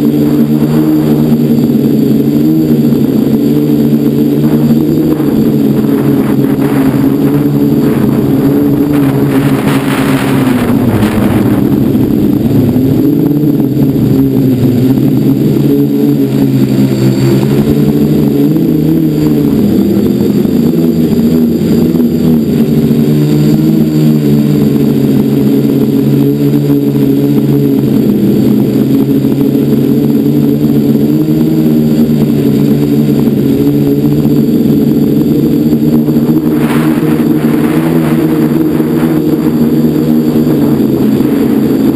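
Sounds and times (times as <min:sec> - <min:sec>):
quadcopter motors and propellers buzzing: 0:00.0 - 0:41.9
rushing noise: 0:00.0 - 0:41.9.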